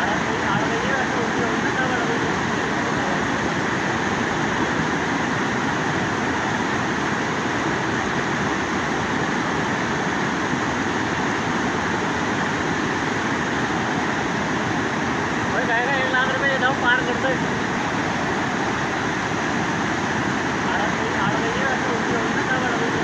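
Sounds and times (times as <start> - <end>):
flood torrent rushing: 0.0 - 23.0.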